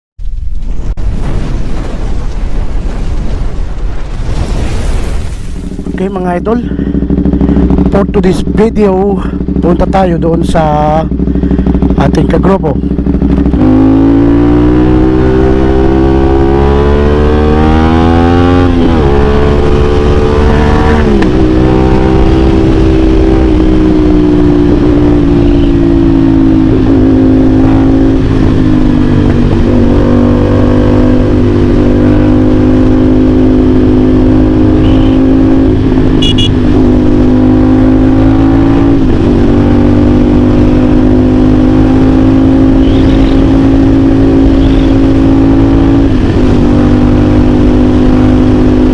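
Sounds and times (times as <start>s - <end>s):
motorcycle engine revving: 5.6s - 48.9s.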